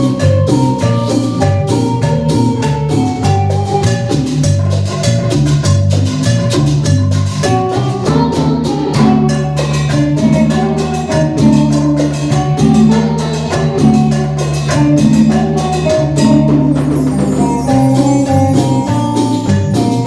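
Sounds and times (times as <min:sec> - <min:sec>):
fast percussion strokes: 0:00.0 - 0:20.0
live band playing: 0:00.0 - 0:20.0.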